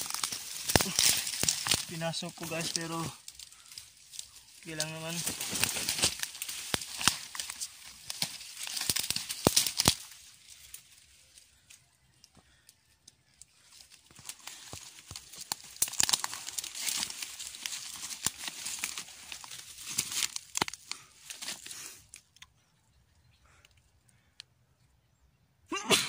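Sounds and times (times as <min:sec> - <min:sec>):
dry leaves and twigs crackling: 0:00.0 - 0:24.5.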